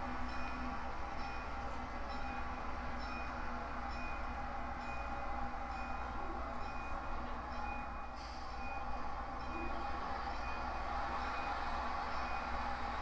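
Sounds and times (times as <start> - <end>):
model locomotive engine drone: 0.0 - 13.0.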